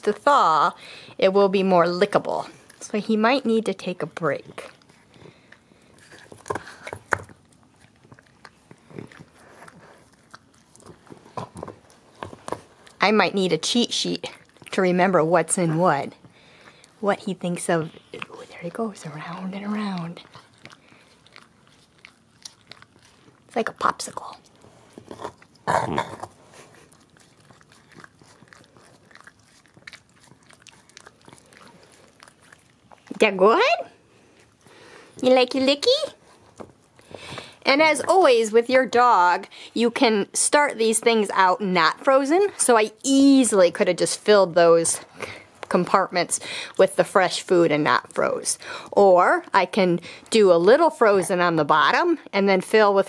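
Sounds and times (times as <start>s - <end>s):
dog licking and chewing food: 0.0s - 51.9s.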